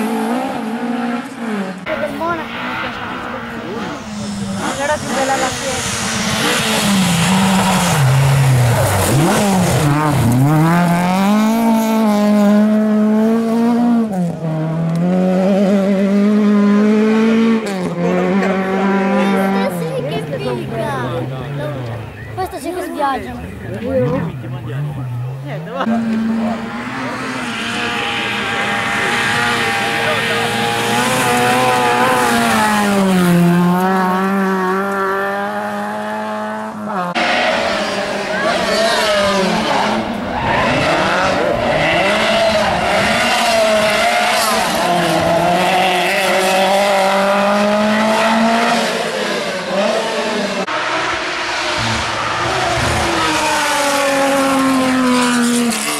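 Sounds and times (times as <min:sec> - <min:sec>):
rally car engine revving high: 0:00.0 - 0:22.3, 0:23.3 - 0:55.9.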